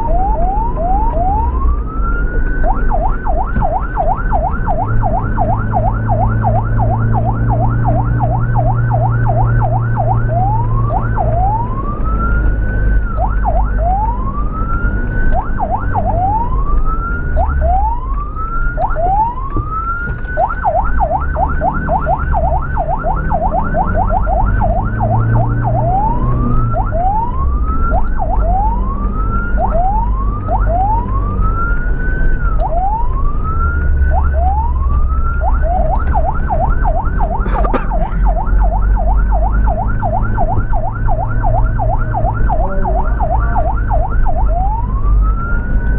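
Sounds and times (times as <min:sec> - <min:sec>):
ambulance siren yelp and wail: 0:00.0 - 0:45.9
vehicle engine and tyres drone: 0:00.0 - 0:45.9.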